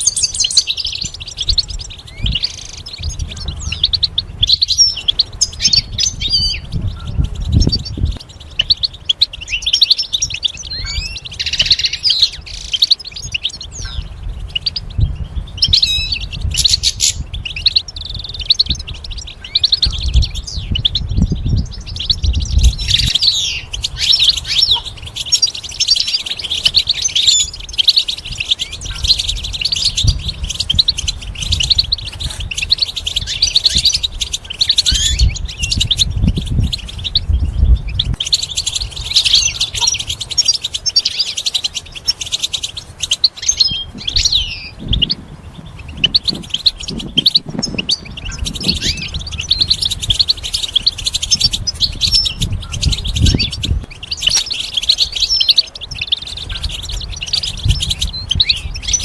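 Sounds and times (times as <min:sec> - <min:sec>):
goldfinch twittering: 0:00.0 - 0:59.0.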